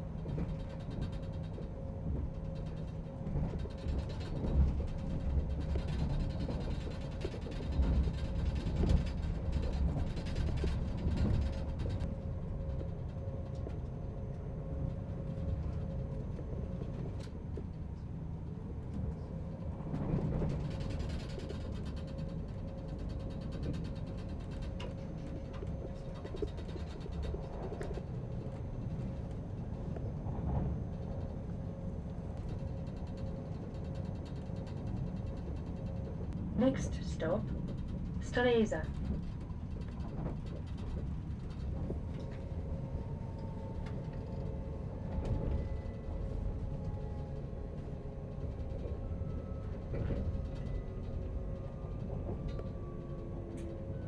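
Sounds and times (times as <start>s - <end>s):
train clicks: 0.0s - 54.0s
train interior rumble: 0.0s - 54.0s.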